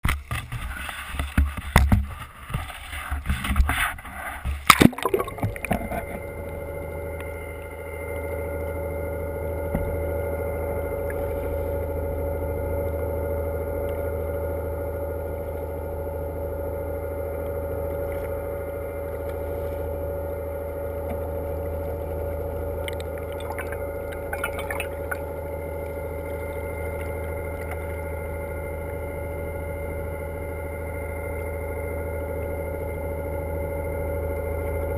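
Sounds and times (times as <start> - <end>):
boat engine running: 4.5 - 34.9.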